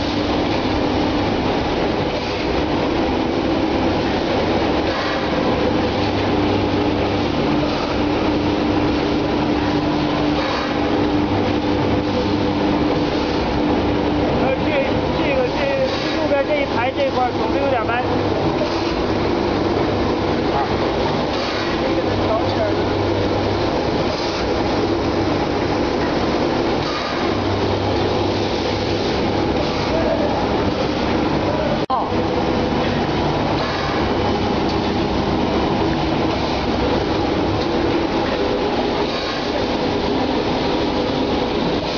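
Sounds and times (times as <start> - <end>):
production line mechanical din: 0.0 - 41.9.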